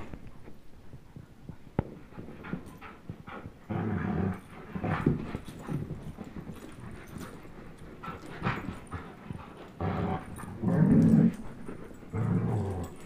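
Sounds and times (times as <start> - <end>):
dogs play-growling: 1.9 - 13.0.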